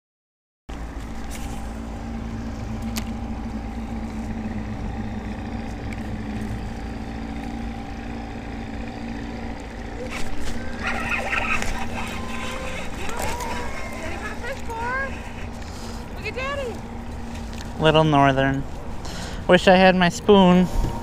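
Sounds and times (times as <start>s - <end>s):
boat motor humming: 0.7s - 21.0s.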